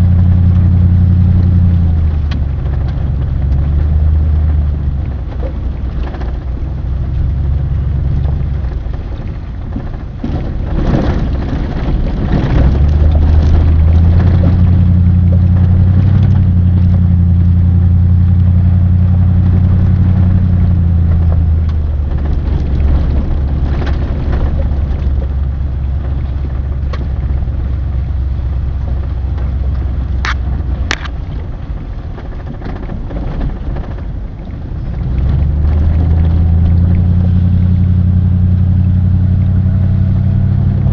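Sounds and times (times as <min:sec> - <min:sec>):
road rumble: 0:00.0 - 0:40.9
vehicle engine droning: 0:00.0 - 0:40.9.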